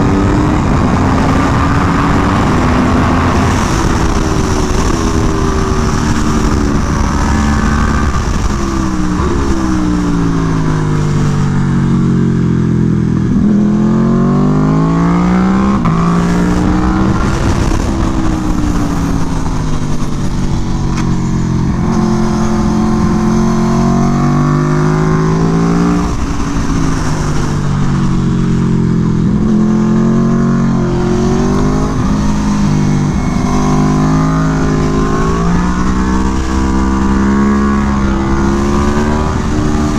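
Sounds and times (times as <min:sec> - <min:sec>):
low rush of wind: 0:00.0 - 0:39.9
motorcycle engine revving: 0:00.0 - 0:39.9.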